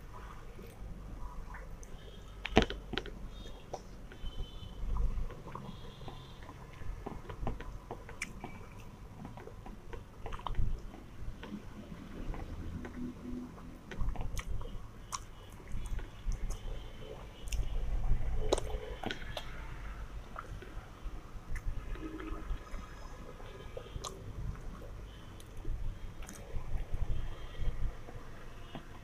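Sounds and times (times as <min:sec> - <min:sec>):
person chewing food: 0:00.3 - 0:20.9, 0:21.5 - 0:29.0.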